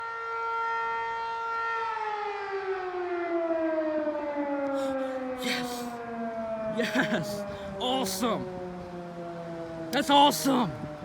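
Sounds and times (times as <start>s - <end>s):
fire siren winding down: 0.0s - 11.0s.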